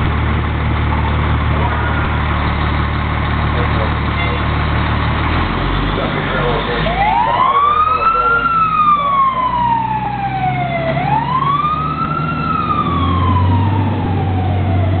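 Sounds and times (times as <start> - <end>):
fire engine siren wailing: 0.0 - 15.0
truck engine rumble: 0.0 - 15.0.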